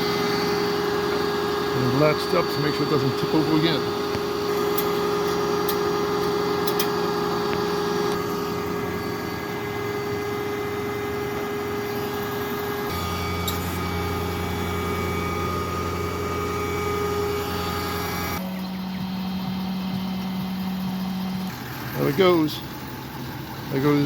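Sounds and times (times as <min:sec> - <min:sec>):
truck engine idling with whine: 0:00.0 - 0:24.0.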